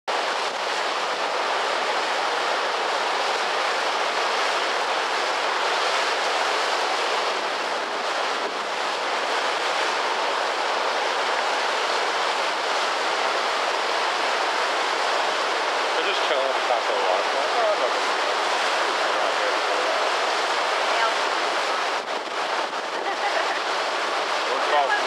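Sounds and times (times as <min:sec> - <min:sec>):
waterfall rushing: 0:00.1 - 0:25.0.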